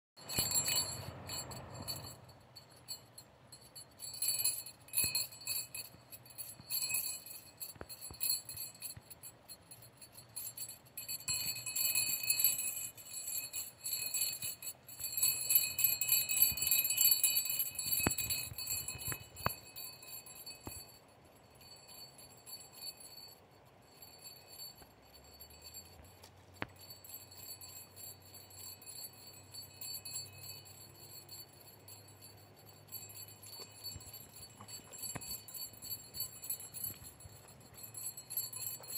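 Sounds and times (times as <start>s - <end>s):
jingle bell jingling: 0.2s - 38.9s.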